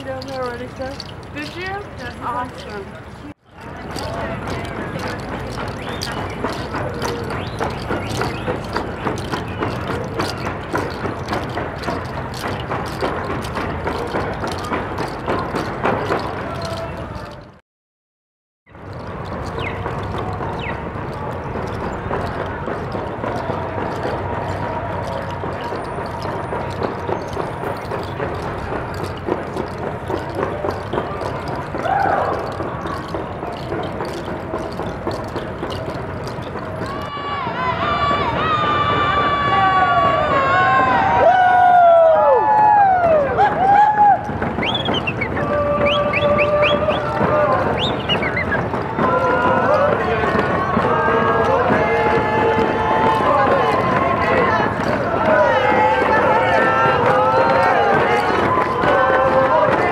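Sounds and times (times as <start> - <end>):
crowd walking noise: 0.0 - 17.6, 18.7 - 59.9
footsteps on pavement: 0.0 - 17.6, 18.7 - 59.9
traffic hum: 0.0 - 17.6, 18.7 - 59.9
rhythmic knocks: 3.6 - 17.3, 18.8 - 37.1, 43.1 - 59.9.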